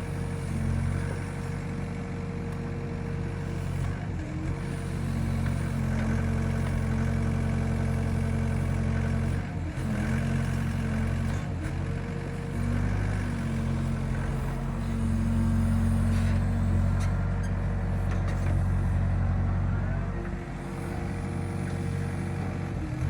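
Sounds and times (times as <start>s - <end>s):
excavator engine running: 0.0s - 23.0s.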